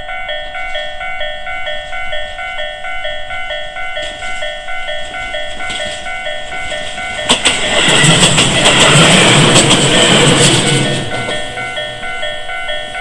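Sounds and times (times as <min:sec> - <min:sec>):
level crossing warning bell: 0:00.0 - 0:13.0
train rumbling past: 0:00.0 - 0:13.0.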